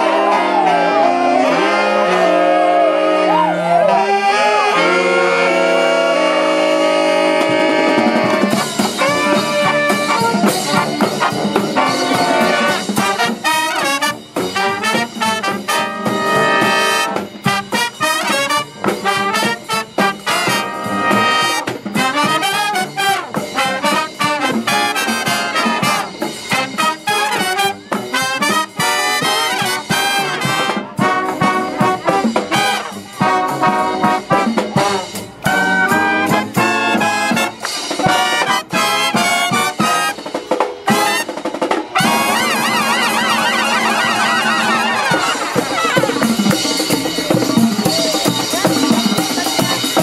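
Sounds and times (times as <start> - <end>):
marching brass band playing: 0.0 - 50.0.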